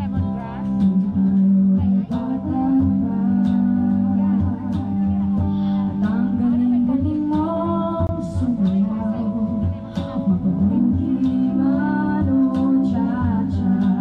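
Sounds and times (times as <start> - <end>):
strummed guitar: 0.0 - 14.0
person singing long notes: 0.8 - 14.0.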